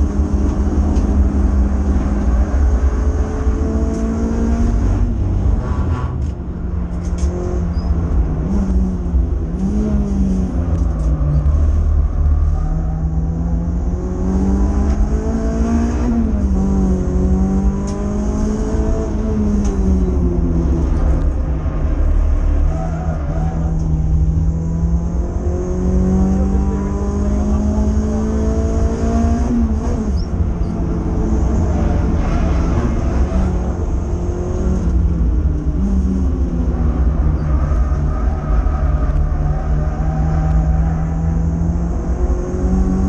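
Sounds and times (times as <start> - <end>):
road and drivetrain rumble: 0.0 - 43.0
car engine revving high: 7.0 - 43.0.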